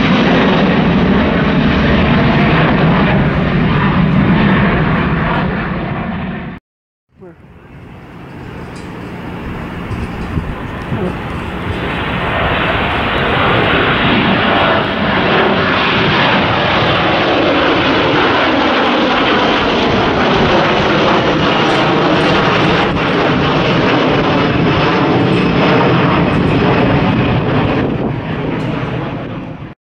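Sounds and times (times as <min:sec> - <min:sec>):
jet engines rumbling: 0:00.0 - 0:06.6, 0:07.2 - 0:29.8.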